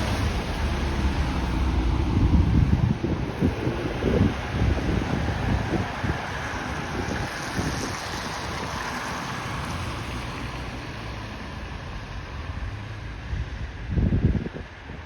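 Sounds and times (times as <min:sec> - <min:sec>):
wind on microphone: 0:00.0 - 0:11.1, 0:12.4 - 0:15.0
steady outdoor rumble: 0:00.0 - 0:15.0.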